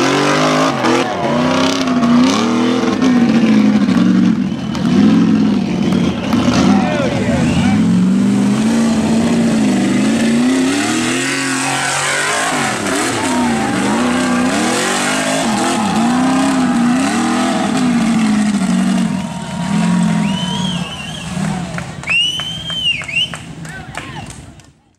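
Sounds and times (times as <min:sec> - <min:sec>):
buggy engine revving hard: 0:00.0 - 0:23.3.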